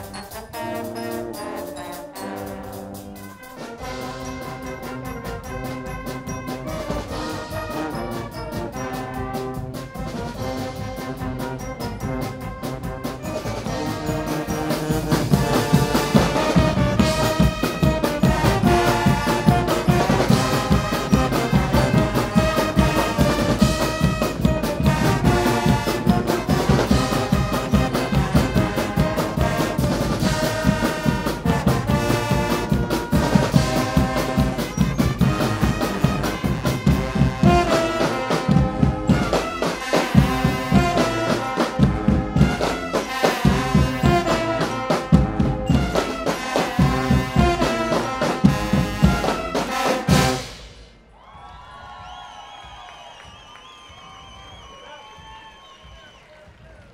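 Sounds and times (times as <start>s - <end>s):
drum kit with cymbals: 0.0s - 51.0s
brass band playing: 0.0s - 51.1s.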